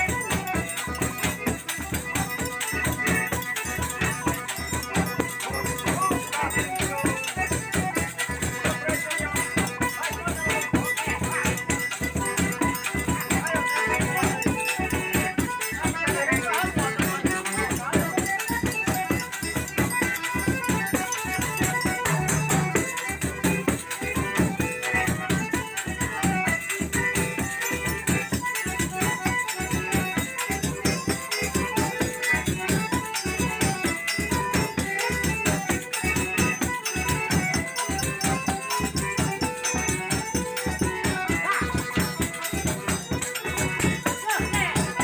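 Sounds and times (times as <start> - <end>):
bass drum beating quick rhythm: 0.0 - 45.0
rattling percussion: 0.0 - 45.0
sustained melodic lines: 0.0 - 45.0.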